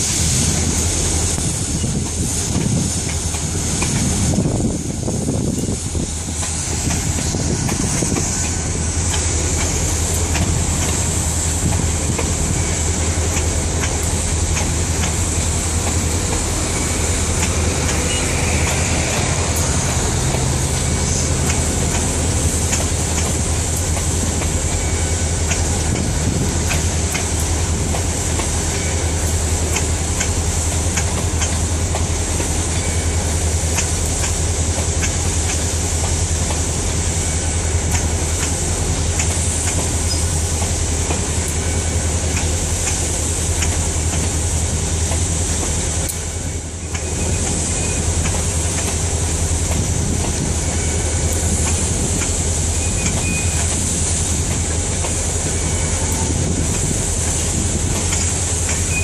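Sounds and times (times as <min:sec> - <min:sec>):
freight train rumble: 0:00.0 - 0:59.0
train wheels clicking over rail joints: 0:00.0 - 0:59.0.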